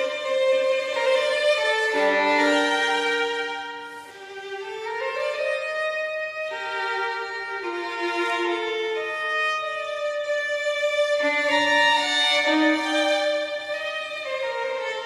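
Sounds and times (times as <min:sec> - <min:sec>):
slow violin melody: 0:00.0 - 0:15.0.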